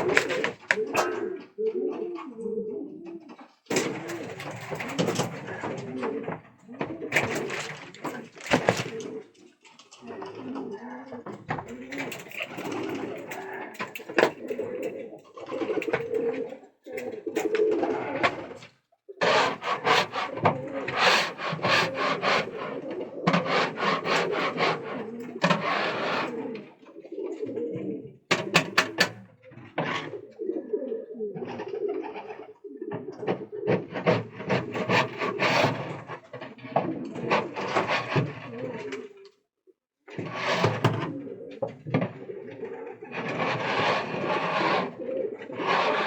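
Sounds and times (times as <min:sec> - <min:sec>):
rustling and scratching: 0:00.0 - 0:02.3, 0:03.0 - 0:26.8, 0:27.8 - 0:30.3, 0:31.4 - 0:39.2, 0:40.1 - 0:46.0
pigeons cooing: 0:00.0 - 0:39.3, 0:40.2 - 0:46.0.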